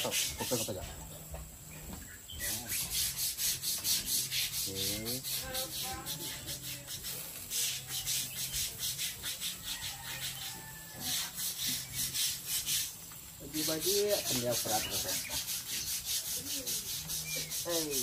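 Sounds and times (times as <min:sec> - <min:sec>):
rhythmic rasping hiss: 0:00.0 - 0:18.0.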